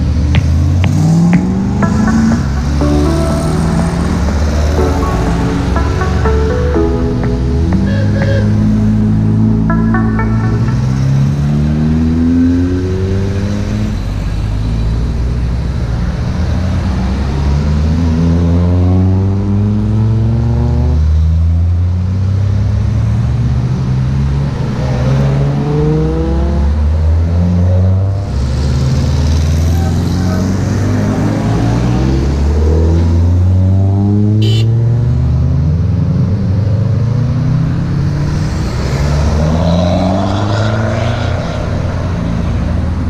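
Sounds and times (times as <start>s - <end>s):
car engines revving: 0.0s - 6.4s, 7.6s - 43.0s.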